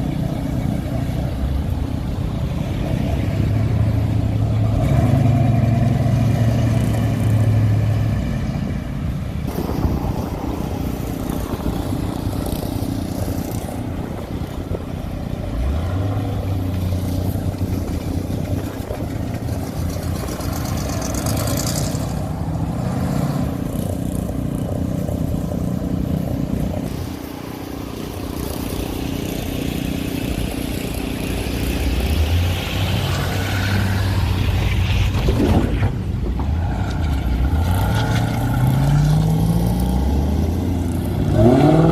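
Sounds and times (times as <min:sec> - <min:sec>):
cars driving past revving: 0:00.0 - 0:41.9.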